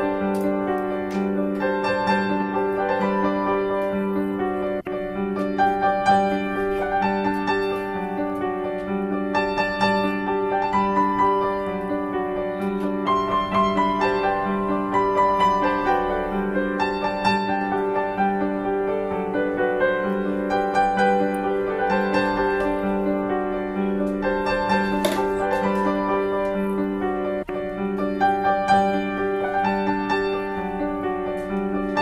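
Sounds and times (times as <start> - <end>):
keyboard melody: 0.0 - 32.0.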